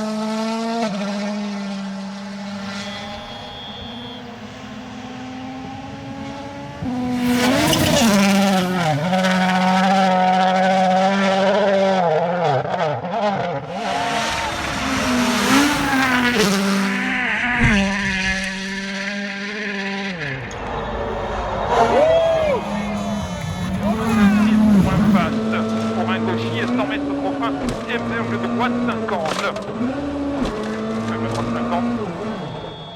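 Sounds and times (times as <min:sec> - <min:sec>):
rally car engine at high revs: 0:00.0 - 0:32.9.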